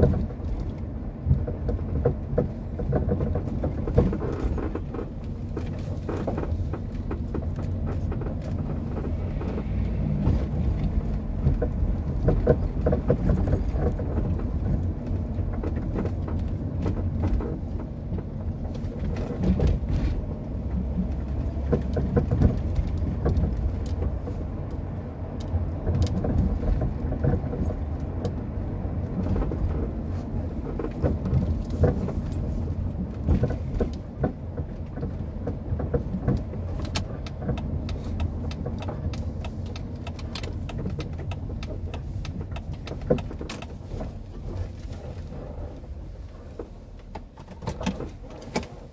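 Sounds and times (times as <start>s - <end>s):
engine and tyres rumbling: 0.0s - 48.9s
light clicks and rattles: 0.0s - 48.9s.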